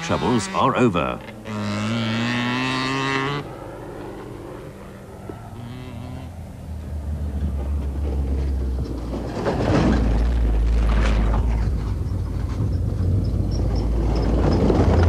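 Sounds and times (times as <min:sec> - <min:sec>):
engine low drone: 0:00.0 - 0:15.0
rush of tyres and stones: 0:00.0 - 0:15.0.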